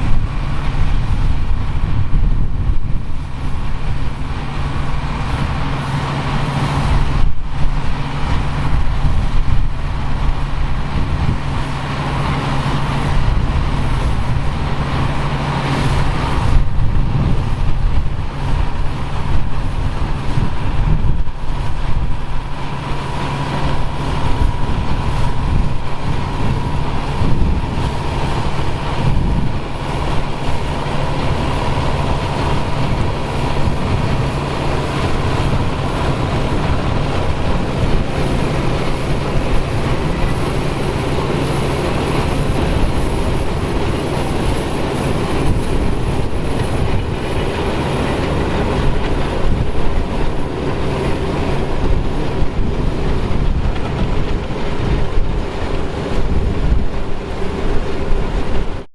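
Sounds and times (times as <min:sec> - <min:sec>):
harvest machinery engine running: 0:00.0 - 0:58.9.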